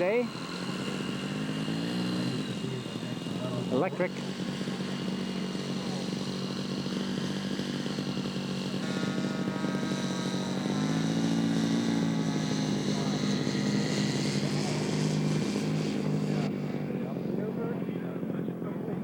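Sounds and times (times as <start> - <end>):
model airplane engine running: 0.0 - 19.0.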